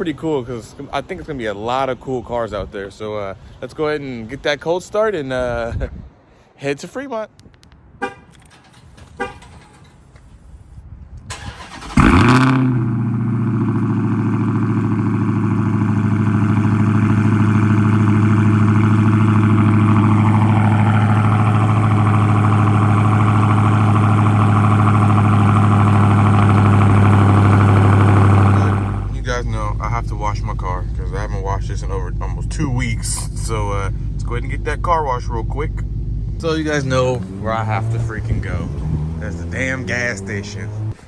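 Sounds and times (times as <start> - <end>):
car engine starting and idling: 7.3 - 41.0.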